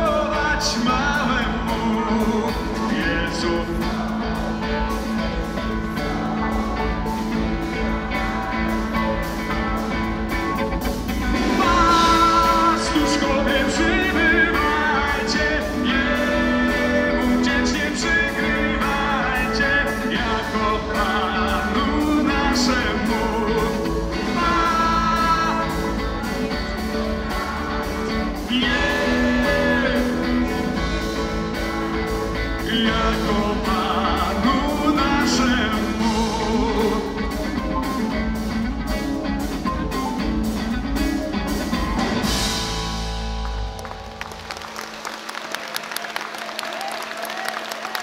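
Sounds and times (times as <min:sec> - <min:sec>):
person singing: 0:00.0 - 0:38.5
rock band playing a carol: 0:00.0 - 0:48.0.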